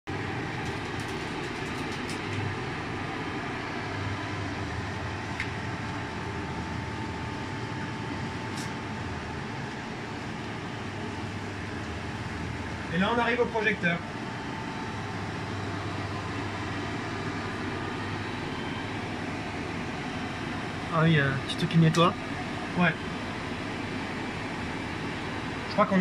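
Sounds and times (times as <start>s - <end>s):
faint steady whine: 0.1s - 26.0s
projector hum and fan noise: 0.1s - 26.0s.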